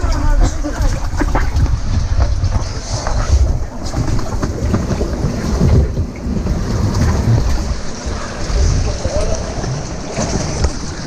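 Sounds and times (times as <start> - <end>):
water buffeting microphone: 0.0 - 11.0.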